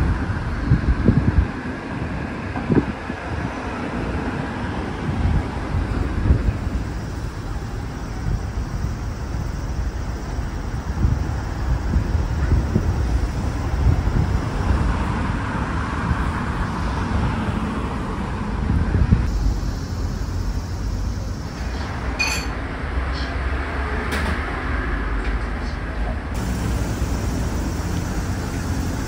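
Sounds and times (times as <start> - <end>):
passing vehicles rumbling: 0.0 - 29.0.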